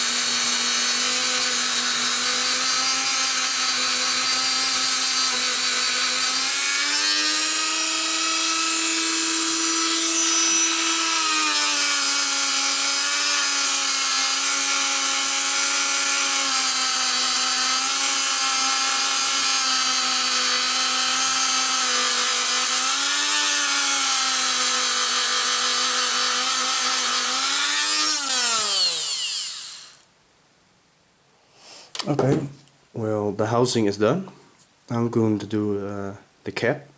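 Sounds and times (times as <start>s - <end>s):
rotary tool whining on metal: 0.0s - 30.1s.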